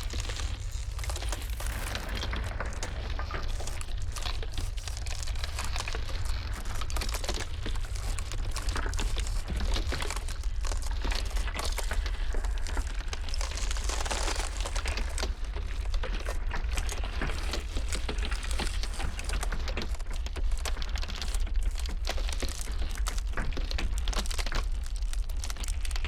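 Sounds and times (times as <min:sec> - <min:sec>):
blizzard wind rumble: 0:00.0 - 0:22.7
ice crackling and popping: 0:00.0 - 0:26.0.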